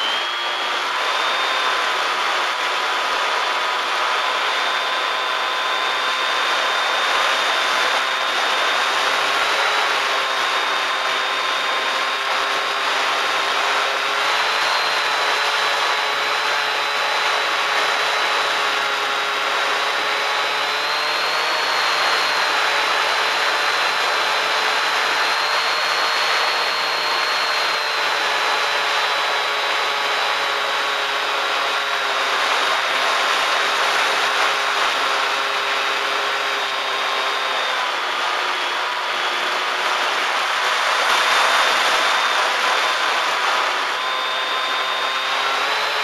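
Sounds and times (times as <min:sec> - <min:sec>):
model plane motor whine: 0:00.0 - 0:46.0.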